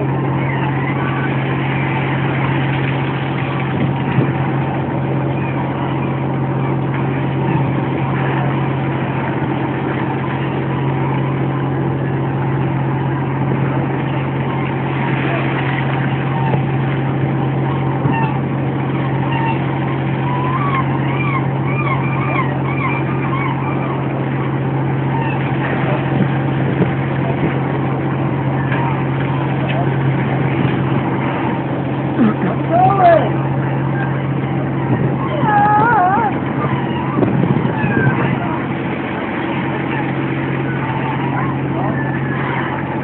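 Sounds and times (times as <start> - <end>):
boat engine humming: 0.0 - 43.0
water rushing along hull: 0.0 - 43.0.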